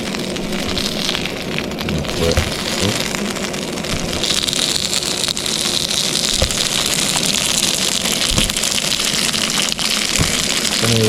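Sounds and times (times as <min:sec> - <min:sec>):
sausage patties sizzling: 0:00.0 - 0:11.0.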